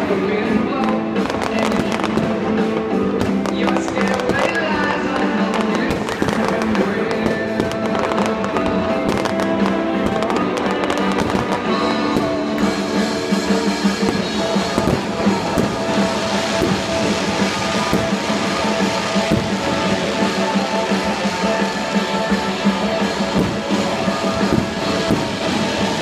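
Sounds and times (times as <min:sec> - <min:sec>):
fireworks cracking and popping: 0:00.0 - 0:26.0
music: 0:00.0 - 0:26.0.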